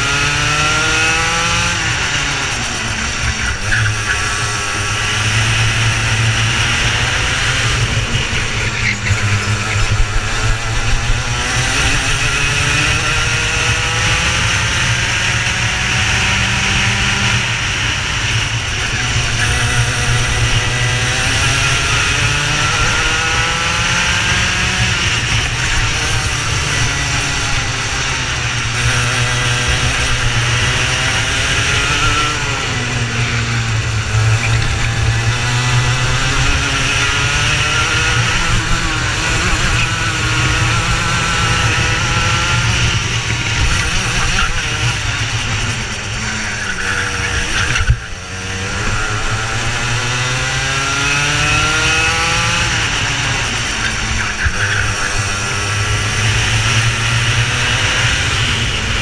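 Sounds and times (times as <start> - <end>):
racing engine revving: 0.0 - 59.0.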